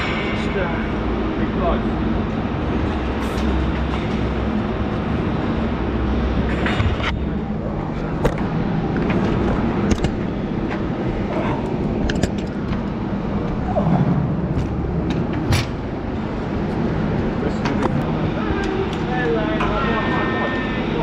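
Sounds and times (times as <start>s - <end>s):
industrial machinery rumbling: 0.0s - 21.0s.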